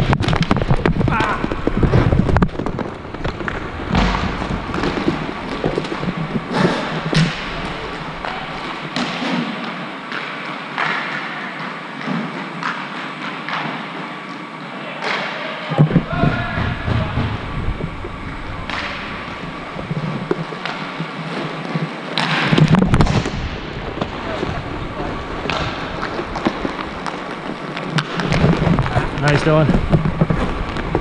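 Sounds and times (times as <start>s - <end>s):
hockey sticks and puck striking: 0.0s - 14.4s, 15.0s - 31.0s.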